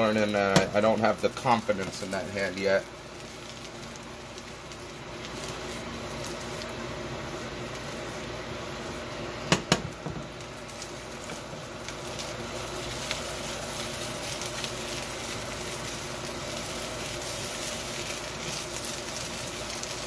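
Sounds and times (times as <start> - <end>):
rice sizzling in a wok: 0.0 - 20.0.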